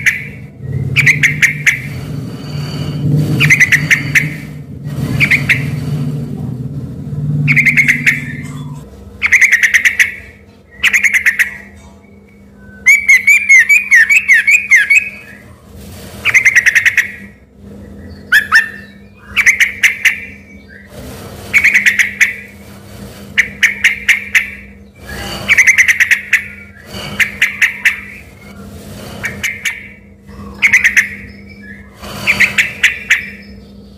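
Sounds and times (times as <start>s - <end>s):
bulbul singing: 0.0s - 2.0s, 2.6s - 5.8s, 7.4s - 15.5s, 16.3s - 20.9s, 23.4s - 28.6s, 29.2s - 33.9s.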